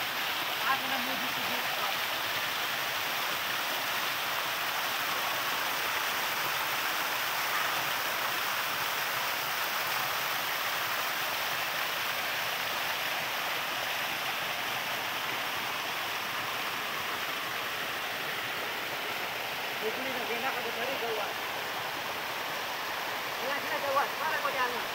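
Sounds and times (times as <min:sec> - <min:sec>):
waterfall rushing and splashing: 0:00.0 - 0:24.9.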